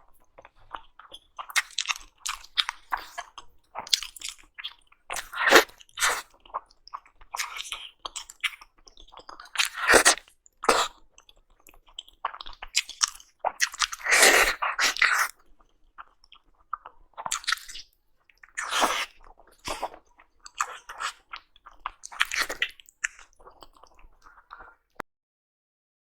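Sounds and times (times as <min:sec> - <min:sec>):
chewing and crunching food: 0:00.0 - 0:25.0.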